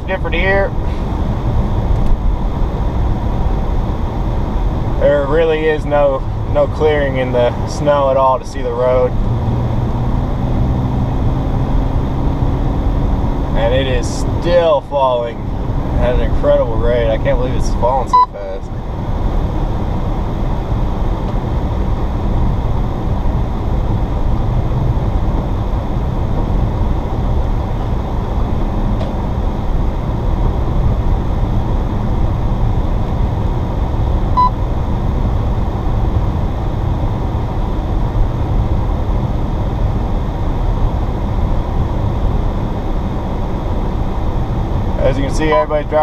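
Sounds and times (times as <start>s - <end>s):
low rumble of tyres and engine: 0.0s - 46.0s.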